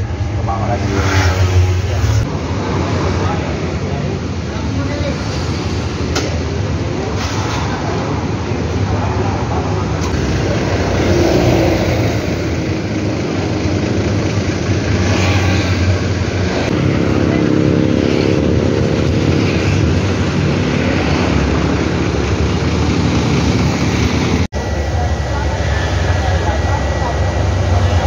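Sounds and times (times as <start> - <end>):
road and wind hiss: 0.0 - 24.5
bus diesel engine rumble: 0.0 - 28.0.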